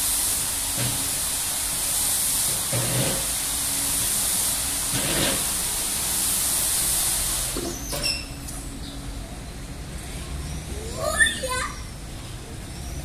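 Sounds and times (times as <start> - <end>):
car wash spray nozzles hissing: 0.0 - 13.0.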